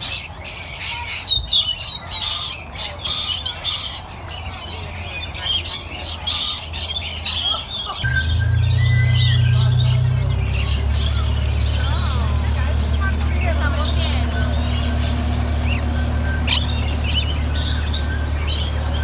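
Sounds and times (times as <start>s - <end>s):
lorikeets screeching: 0.0s - 19.0s.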